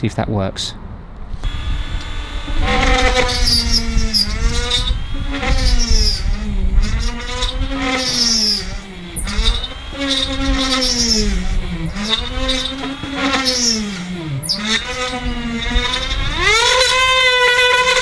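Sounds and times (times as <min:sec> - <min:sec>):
gritty grinding: 0:01.2 - 0:18.0
rotary tool motor whine: 0:01.2 - 0:18.0.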